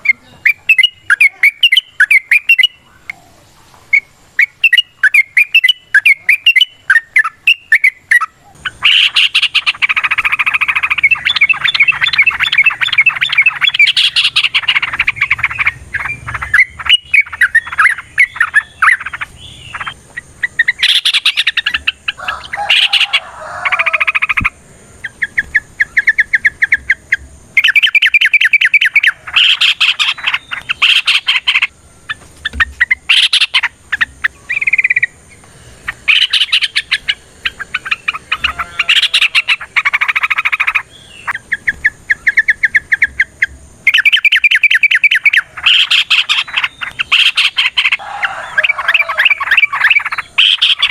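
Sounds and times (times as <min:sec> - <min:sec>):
bulbuls singing chattering runs: 0:00.0 - 0:50.9.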